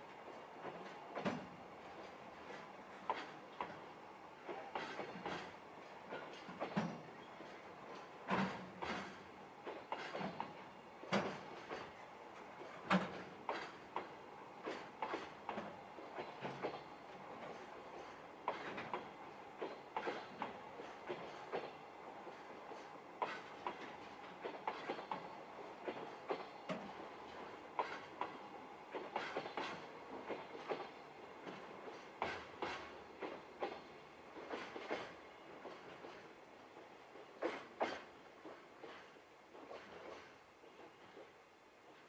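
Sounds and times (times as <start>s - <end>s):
wheels clicking over rail joints: 0.6s - 3.9s, 4.5s - 41.3s.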